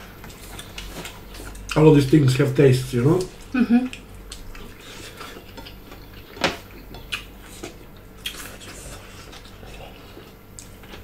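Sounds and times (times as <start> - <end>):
people chewing: 0.0 - 11.0.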